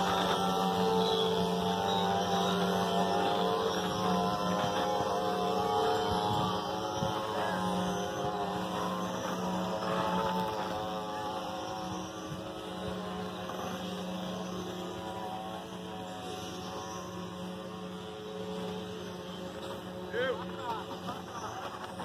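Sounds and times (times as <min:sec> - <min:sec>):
wooden cart axles droning: 0:00.0 - 0:22.0.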